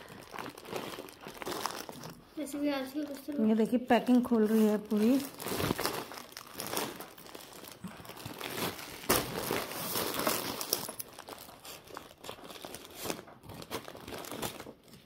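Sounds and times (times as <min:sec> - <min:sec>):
plastic mailer bag crinkling: 0:00.0 - 0:02.3, 0:03.0 - 0:15.0.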